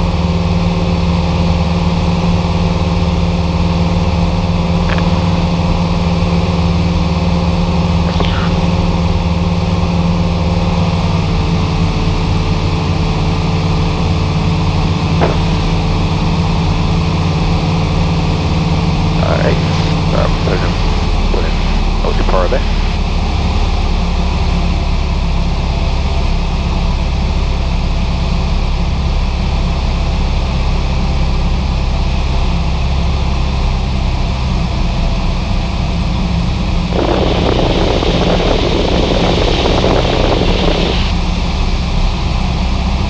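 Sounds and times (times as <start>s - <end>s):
airplane engine droning in cabin: 0.0s - 43.0s.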